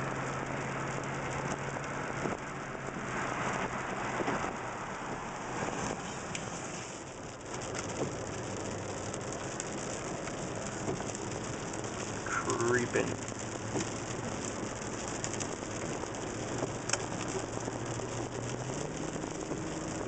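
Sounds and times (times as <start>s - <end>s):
rain hitting a vehicle: 0.0s - 20.0s.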